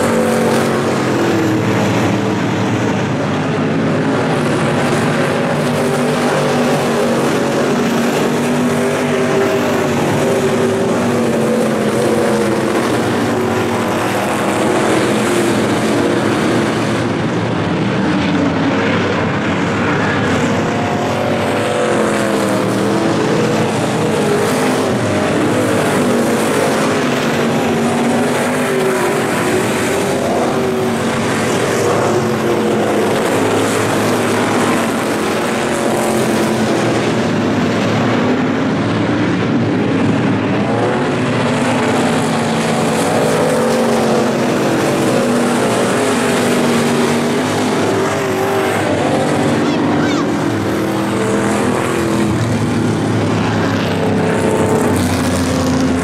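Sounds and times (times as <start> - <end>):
race car engines running hard: 0.0 - 56.0.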